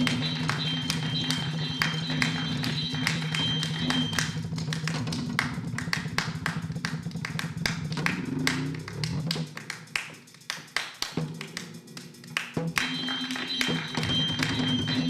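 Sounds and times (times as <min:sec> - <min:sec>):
sharp percussion taps: 0:00.0 - 0:15.0.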